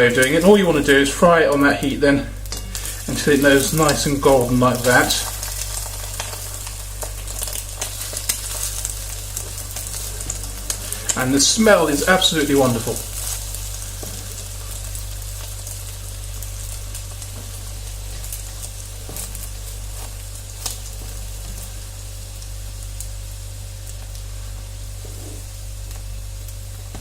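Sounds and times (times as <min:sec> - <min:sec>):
bread frying in oil sizzling: 0:00.0 - 0:27.0
oil crackling and popping: 0:00.0 - 0:27.0.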